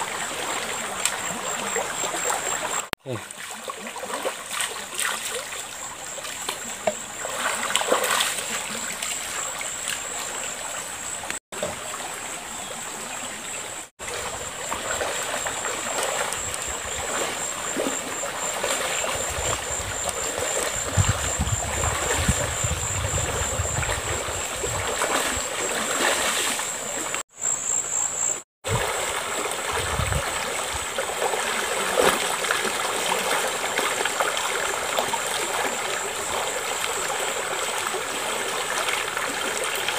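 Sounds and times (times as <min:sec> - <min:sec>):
splashing in water: 0:00.0 - 0:10.4, 0:14.0 - 0:27.2, 0:28.6 - 0:39.9
shallow river running: 0:00.0 - 0:27.4, 0:28.6 - 0:39.9.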